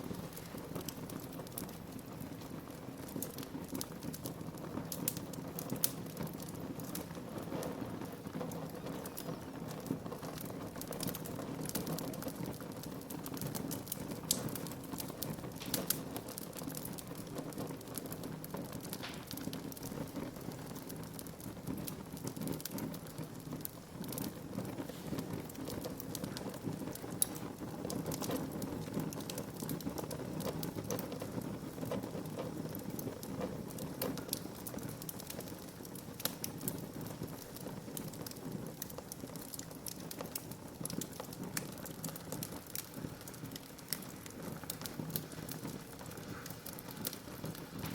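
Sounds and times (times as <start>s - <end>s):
fire crackling and popping: 0.0s - 47.9s
fire flames rushing: 0.0s - 47.9s.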